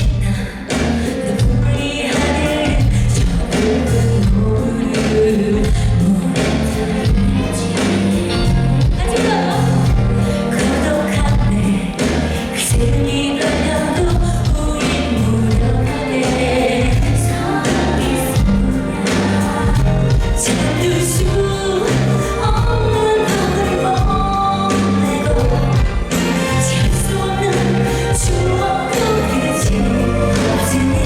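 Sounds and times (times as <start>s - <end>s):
live pop song with band: 0.0s - 31.0s
person singing: 0.0s - 31.0s.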